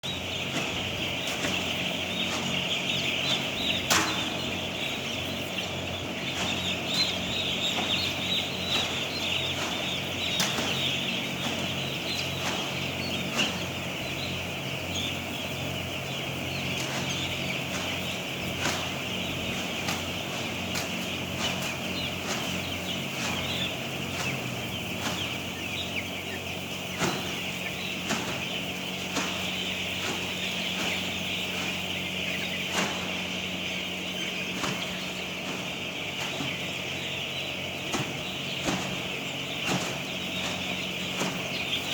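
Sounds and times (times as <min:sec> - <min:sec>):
chickens calling: 0:00.0 - 0:41.9.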